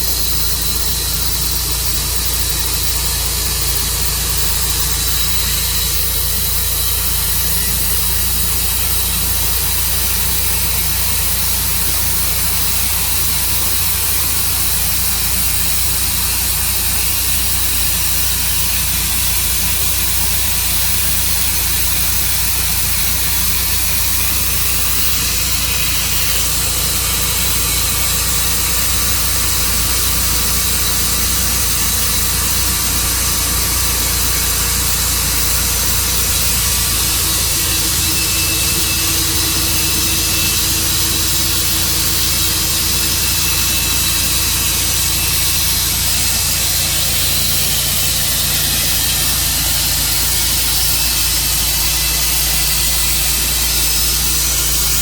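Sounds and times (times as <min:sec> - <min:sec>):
loud hiss: 0:00.0 - 0:55.0
sawmill engine hum: 0:00.0 - 0:55.0.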